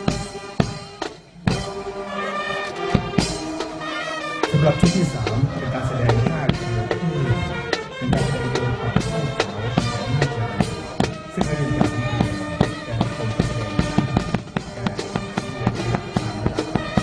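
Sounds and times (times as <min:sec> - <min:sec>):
music with drums: 0:00.0 - 0:17.0.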